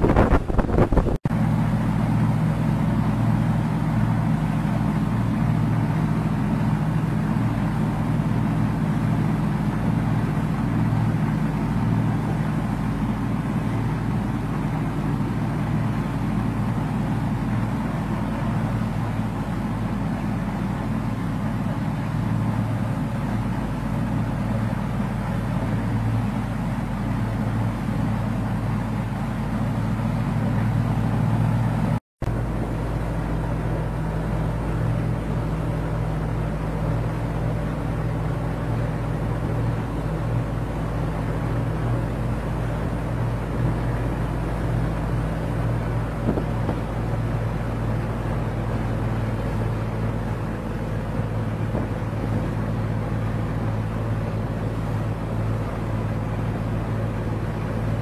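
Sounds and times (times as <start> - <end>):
boat engine running: 0.0 - 58.0
rushing water and wind: 0.0 - 58.0.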